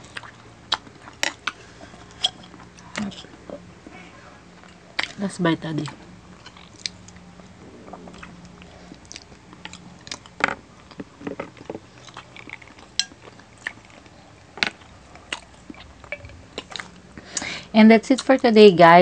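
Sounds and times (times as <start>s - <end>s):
people chewing: 0.0s - 18.4s.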